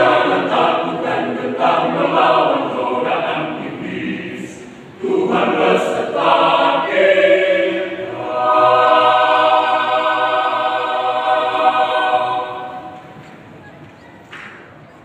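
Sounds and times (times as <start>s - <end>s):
mixed choir singing: 0.0s - 13.5s.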